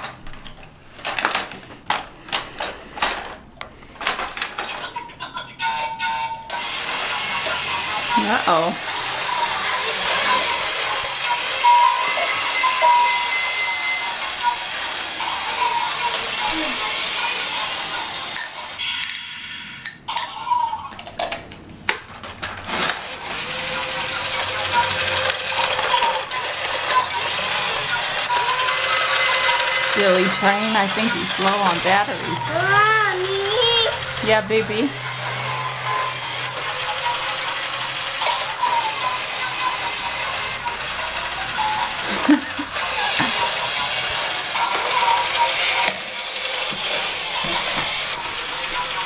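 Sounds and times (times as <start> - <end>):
plastic toy train clicking on track: 0.0 - 19.2, 19.8 - 49.0.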